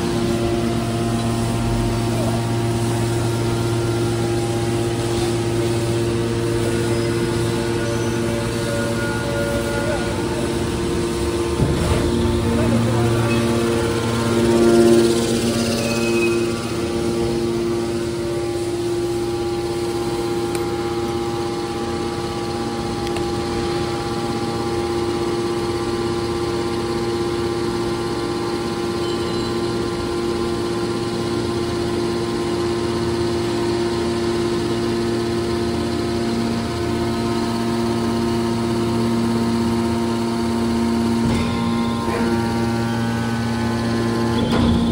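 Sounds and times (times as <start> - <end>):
hydraulic motor and pump humming: 0.0 - 44.9.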